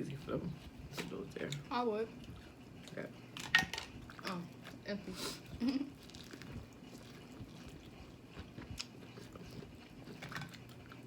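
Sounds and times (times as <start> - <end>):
faint chewing: 0.1 - 11.0.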